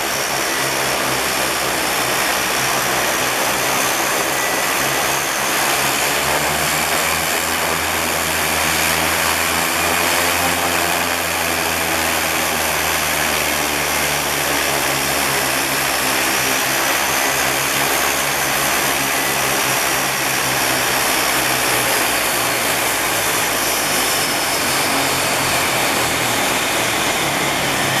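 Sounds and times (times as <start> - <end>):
turboprop engines running: 0.0 - 28.0.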